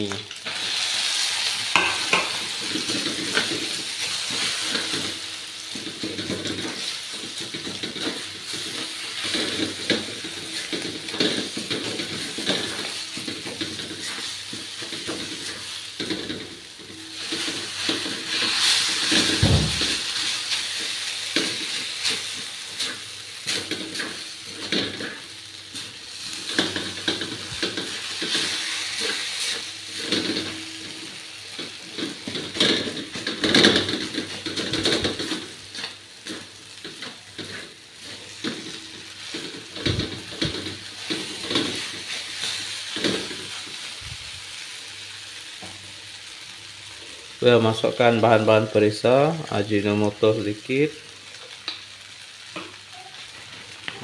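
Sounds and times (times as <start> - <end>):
noodles sizzling in a wok: 0.0 - 54.0.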